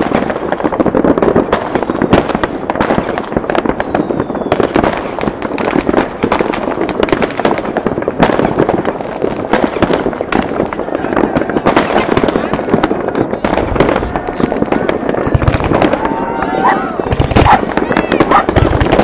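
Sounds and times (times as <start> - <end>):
fireworks crackling: 0.0 - 19.0
sharp firecracker bangs: 0.0 - 19.0.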